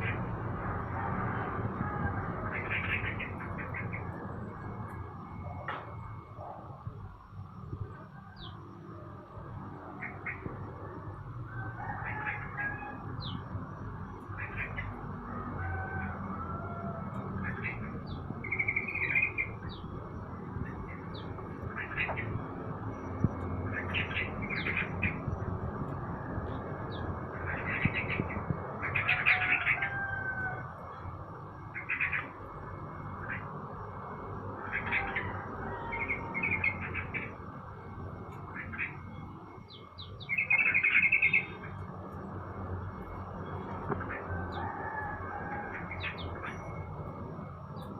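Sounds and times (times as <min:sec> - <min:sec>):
low background hum: 0:00.0 - 0:47.9
songbirds chirping and whistling: 0:00.0 - 0:47.9.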